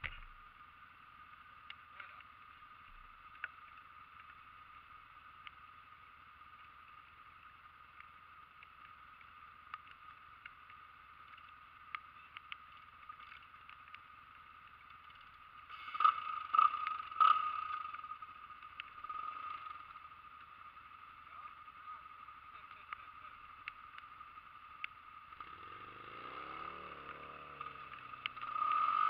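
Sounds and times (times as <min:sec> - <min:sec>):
distant quad bike engine whine: 0:00.0 - 0:29.0.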